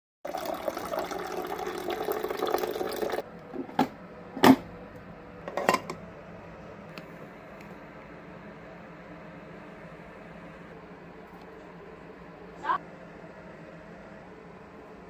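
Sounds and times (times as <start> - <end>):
coffee maker gurgling and hissing: 0.2 - 15.0.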